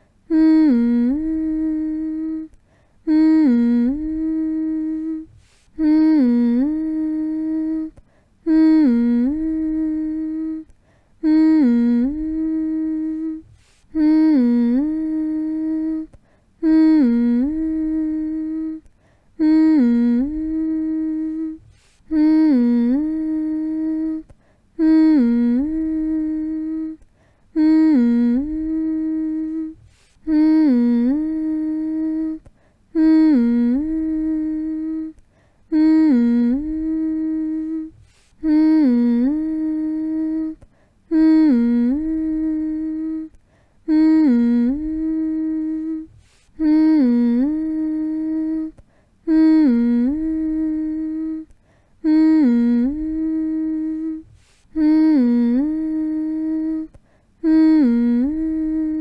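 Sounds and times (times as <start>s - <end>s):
person humming a lullaby: 0.0s - 59.0s.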